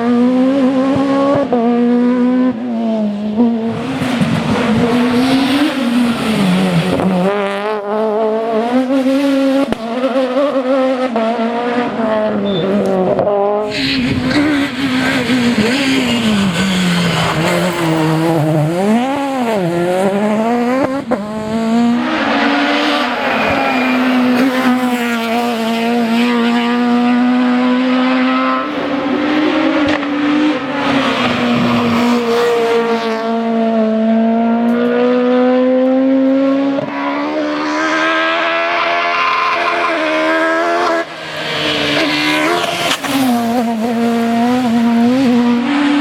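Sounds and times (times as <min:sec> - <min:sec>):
rally car engine at high revs: 0:00.0 - 0:46.0.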